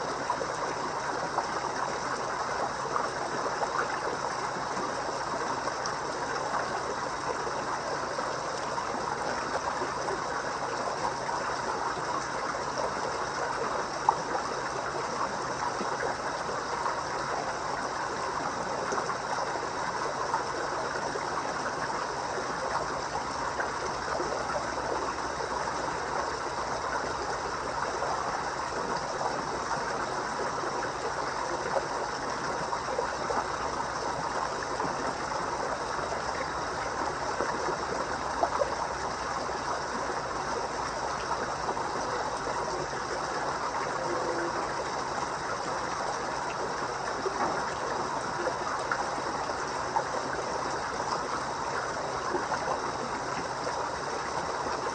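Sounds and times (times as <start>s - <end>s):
pond water trickling: 0.0s - 54.9s.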